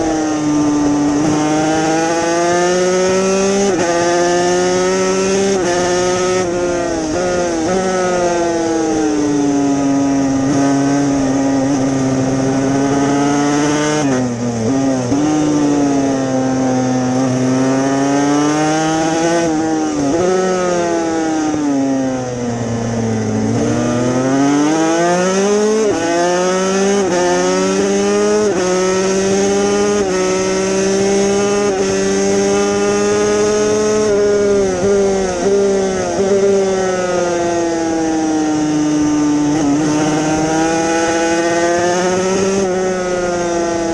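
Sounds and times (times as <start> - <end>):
motorcycle engine at racing speed: 0.0 - 43.9.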